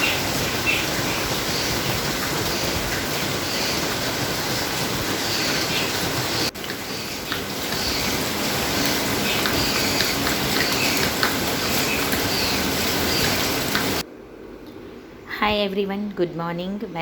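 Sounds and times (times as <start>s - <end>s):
heavy rainfall: 0.0s - 14.0s.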